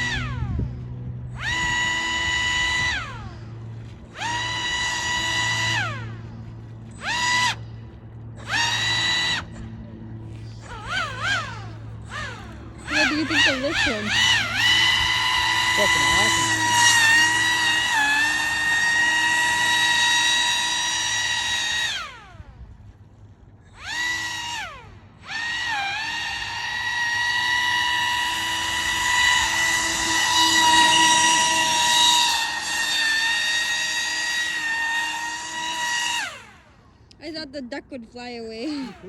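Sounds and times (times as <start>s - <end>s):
model airboat motor whining: 0.0s - 39.0s.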